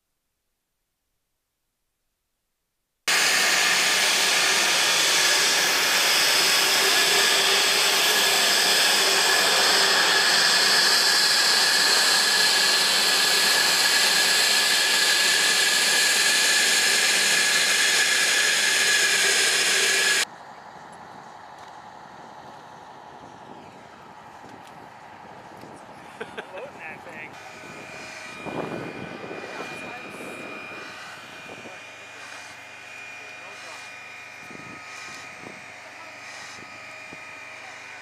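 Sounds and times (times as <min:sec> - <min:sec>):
jet engine running: 0:03.1 - 0:20.3, 0:21.3 - 0:38.0.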